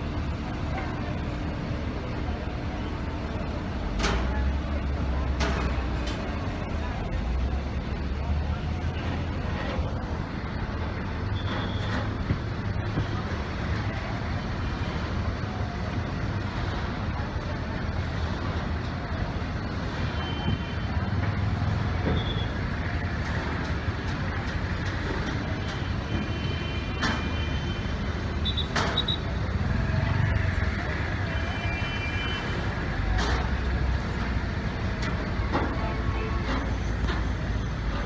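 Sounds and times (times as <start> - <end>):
road traffic: 0.0 - 38.0.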